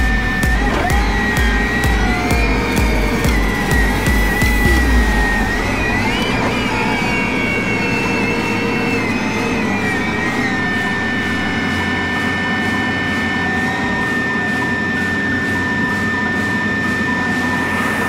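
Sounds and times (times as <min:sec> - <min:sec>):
high driveline whine: 0:00.0 - 0:18.0
tractor engine drone: 0:00.0 - 0:18.0.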